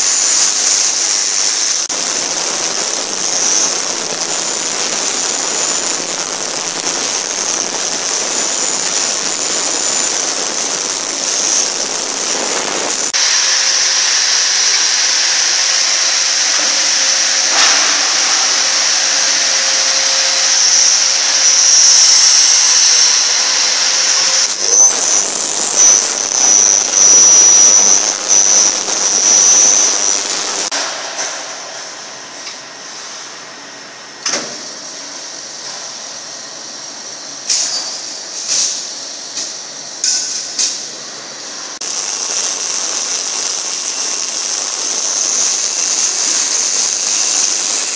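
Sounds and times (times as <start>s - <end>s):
ultrasonic cleaner hiss and whine: 0.0s - 47.9s.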